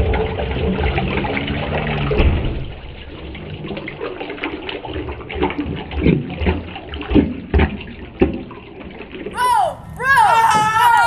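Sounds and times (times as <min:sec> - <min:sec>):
toilet bowl gurgling: 0:00.0 - 0:09.3.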